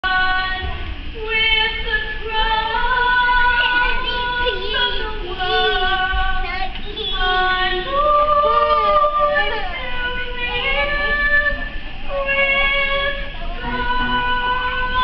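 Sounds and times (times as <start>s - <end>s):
choir singing in parts: 2.3s - 15.0s.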